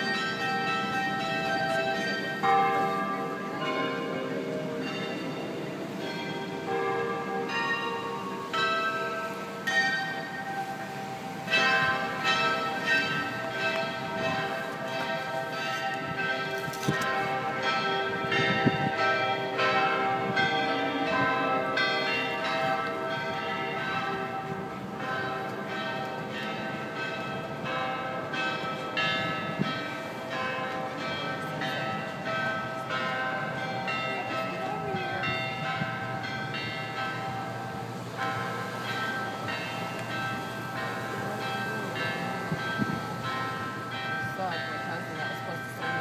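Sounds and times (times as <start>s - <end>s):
church bells ringing: 0.0s - 46.0s.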